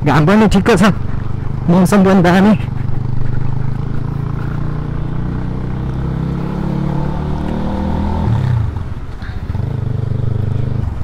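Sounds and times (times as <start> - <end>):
scooter engine drone: 0.0 - 11.0.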